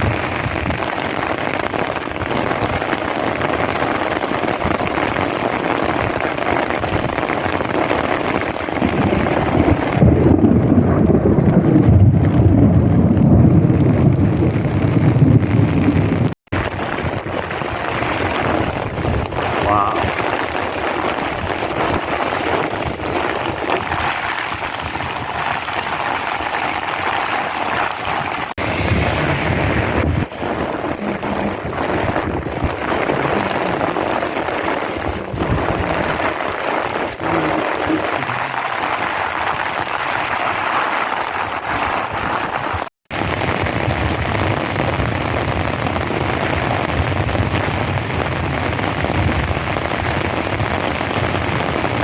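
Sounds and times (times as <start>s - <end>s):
heavy rain hissing: 0.0s - 10.7s, 13.7s - 52.0s.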